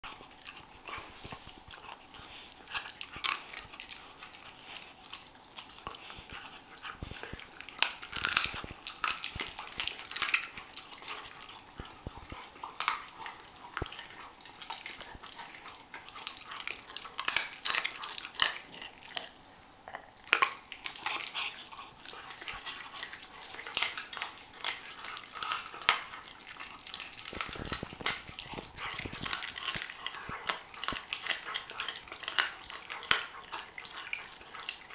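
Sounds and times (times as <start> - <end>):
puppy chewing bone: 0.0 - 34.9.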